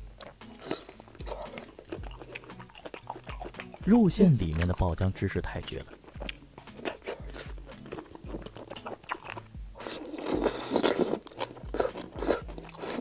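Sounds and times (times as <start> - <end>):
wet chewing: 0.0 - 13.0
biting into food: 0.2 - 3.9, 5.9 - 13.0.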